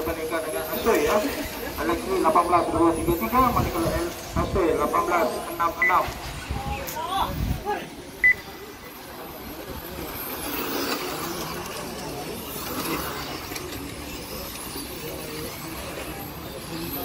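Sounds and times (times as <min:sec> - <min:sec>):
electric rc cars whirring: 0:00.0 - 0:17.0.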